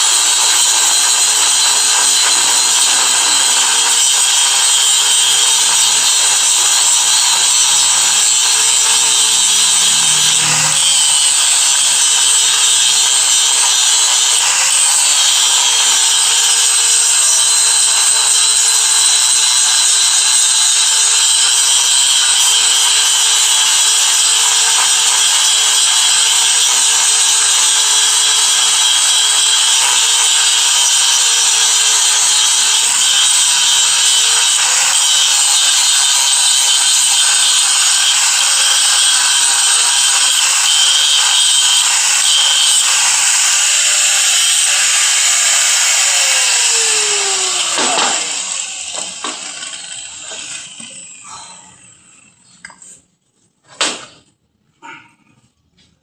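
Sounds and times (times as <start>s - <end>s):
power tool running: 0.0s - 52.4s.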